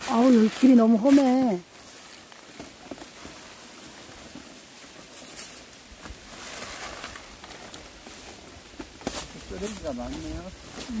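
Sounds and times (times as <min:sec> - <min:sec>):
dry leaves and twigs rustling: 0:00.0 - 0:11.0.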